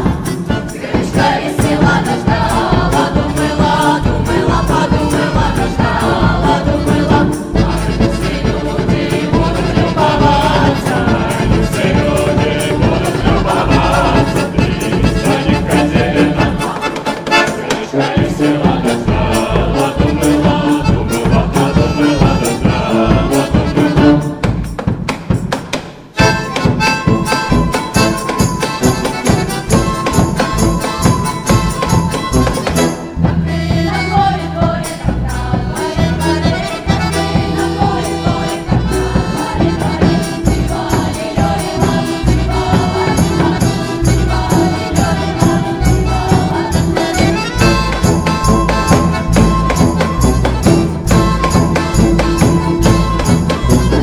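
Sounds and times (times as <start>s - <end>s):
folk ensemble music: 0.0s - 54.0s.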